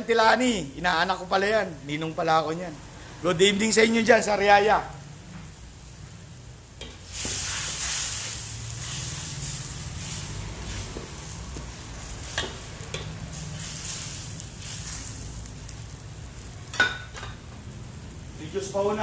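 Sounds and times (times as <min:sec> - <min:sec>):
sauce sizzling and bubbling in wok: 0:00.0 - 0:19.0.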